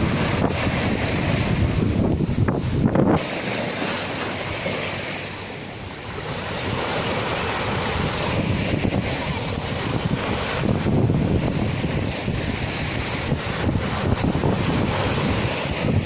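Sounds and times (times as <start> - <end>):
sea waves breaking: 0.0 - 16.0
wind on microphone: 0.0 - 16.0.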